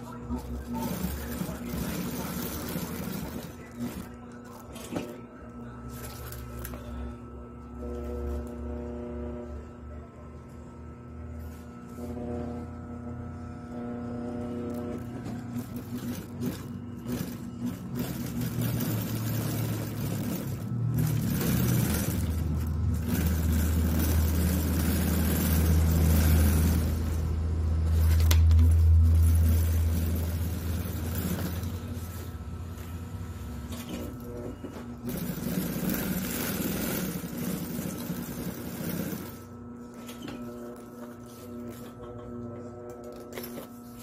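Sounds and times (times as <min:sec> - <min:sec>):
sewing machine running: 0:00.0 - 0:09.6, 0:11.4 - 0:44.0.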